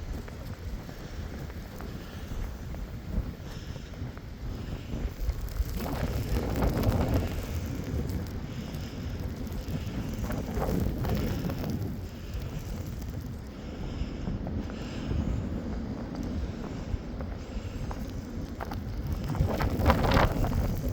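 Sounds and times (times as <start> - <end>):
blizzard wind gusting: 0.0 - 20.9
wind buffeting microphone: 0.0 - 20.9.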